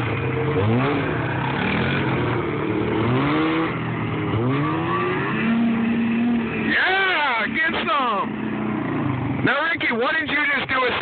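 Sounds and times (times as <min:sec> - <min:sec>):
atv engine revving: 0:00.0 - 0:11.0
snowmobile engine revving: 0:00.0 - 0:11.0.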